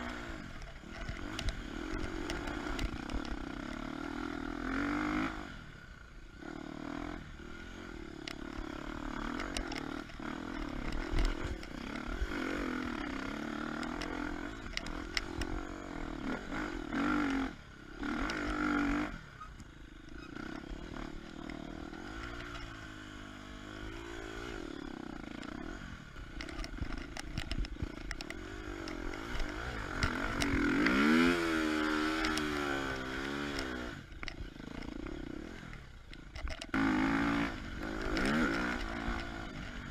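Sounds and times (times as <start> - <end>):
motorbike engine revving: 0.0 - 5.7, 6.4 - 39.9.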